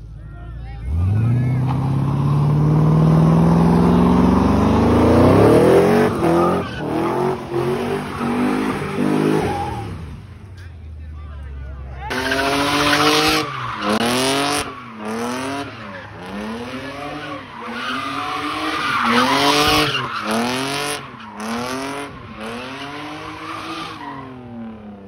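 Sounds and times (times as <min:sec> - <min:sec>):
car engine revving: 0:00.8 - 0:10.6, 0:12.1 - 0:25.0
tires screeching: 0:00.8 - 0:10.9, 0:11.9 - 0:25.0.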